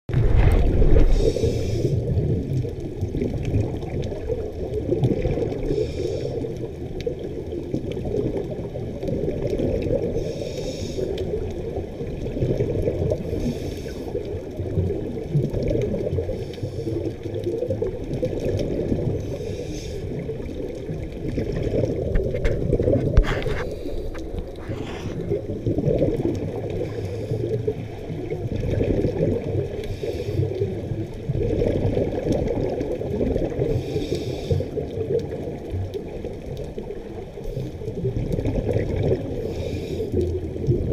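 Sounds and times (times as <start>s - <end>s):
underwater regulator bubbling: 0.1s - 40.9s.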